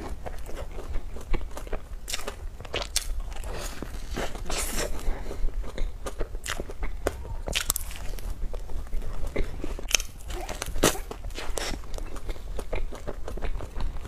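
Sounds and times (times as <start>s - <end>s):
crunchy chewing close up: 0.0s - 14.0s.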